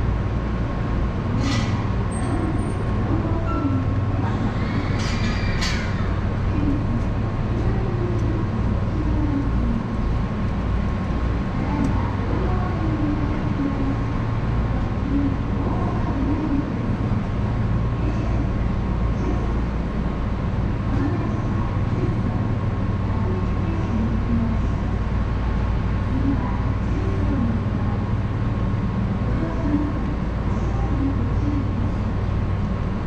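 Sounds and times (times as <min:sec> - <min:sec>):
electric train rumble: 0:00.0 - 0:33.0.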